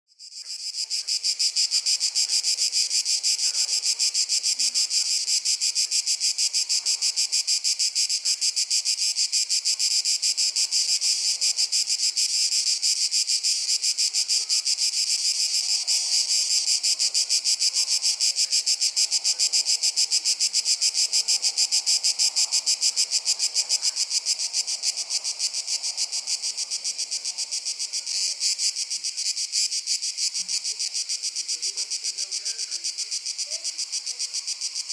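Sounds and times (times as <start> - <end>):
insects pulsing shrill chorus: 0.2 - 34.9.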